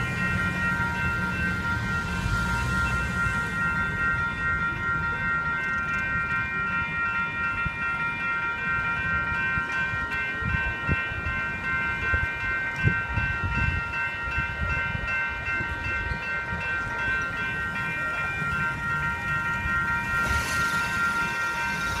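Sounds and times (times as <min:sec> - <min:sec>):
crossing bells ringing: 0:00.0 - 0:22.0.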